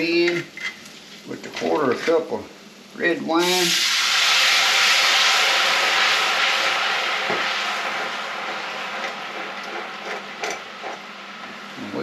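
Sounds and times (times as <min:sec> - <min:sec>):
wine sizzling in a hot wok: 0:00.0 - 0:12.0.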